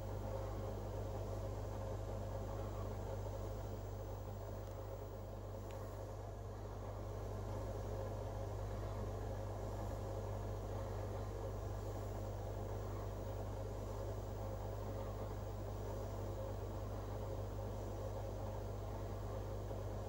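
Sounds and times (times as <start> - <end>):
aquarium pump humming: 0.0 - 20.0.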